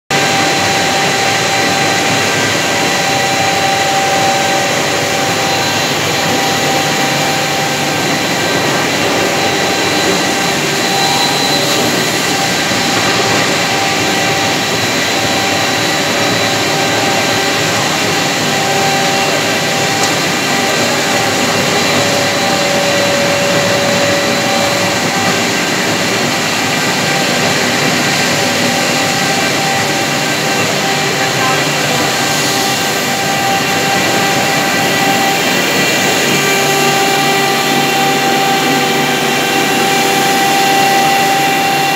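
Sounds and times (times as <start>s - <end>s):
extruder machine running: 0.1s - 41.9s
steady whining tones: 0.1s - 41.9s.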